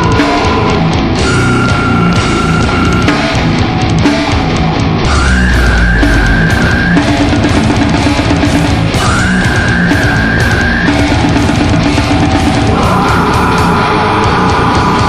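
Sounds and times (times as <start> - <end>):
distorted guitars: 0.0 - 15.0
fast drums: 0.0 - 15.0
high sliding lead guitar tone: 0.0 - 15.0.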